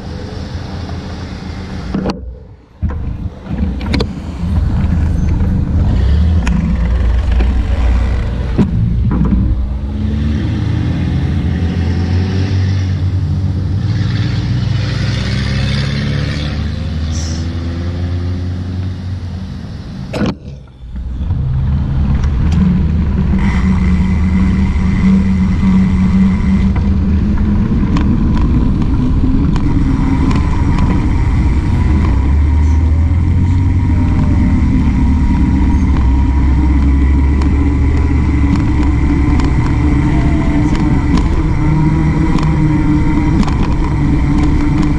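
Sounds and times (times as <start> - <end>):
wind rumble on microphone: 0.0 - 14.8, 18.8 - 44.9
bicycle road rumble: 0.0 - 44.9
car traffic passing: 0.0 - 44.9.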